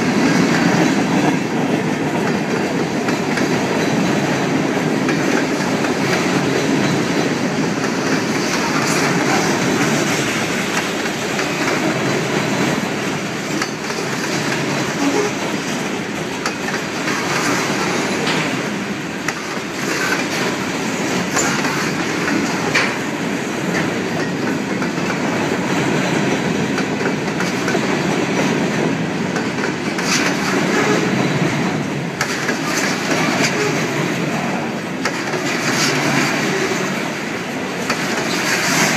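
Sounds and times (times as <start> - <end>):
train wheels clattering on rails: 0.0 - 38.9.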